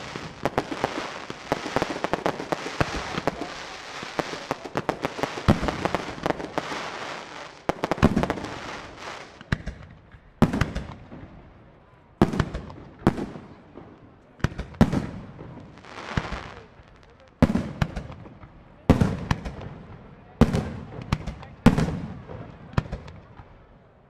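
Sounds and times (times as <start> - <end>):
fireworks bangs: 0.0 - 11.5, 12.2 - 23.7
fireworks crackling: 0.0 - 23.7.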